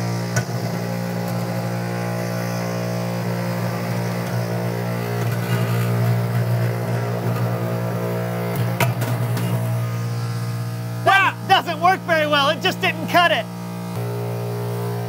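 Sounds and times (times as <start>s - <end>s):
cotton candy machine humming: 0.0s - 15.0s.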